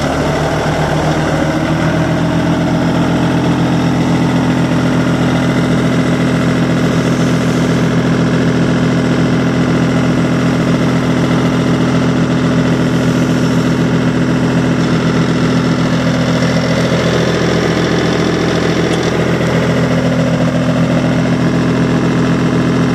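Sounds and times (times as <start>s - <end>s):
tractor diesel engine idling: 0.0s - 22.9s.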